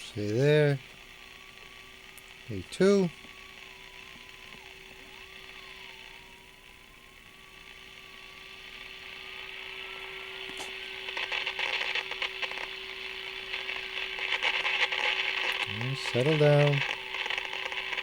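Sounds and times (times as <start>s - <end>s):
hiss and crackling static: 0.0s - 18.0s
radio speaker test tone: 0.0s - 18.0s.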